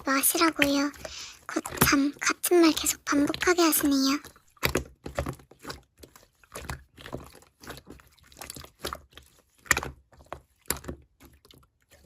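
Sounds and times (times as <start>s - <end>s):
slime squishing: 0.0s - 12.0s.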